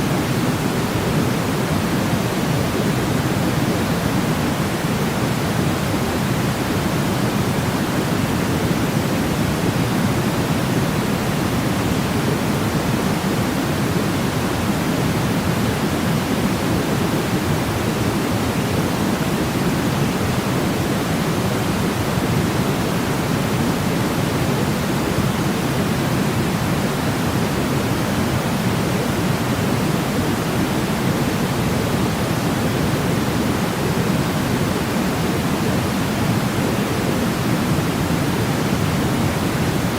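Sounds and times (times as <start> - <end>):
low-weighted white noise: 0.0 - 39.9.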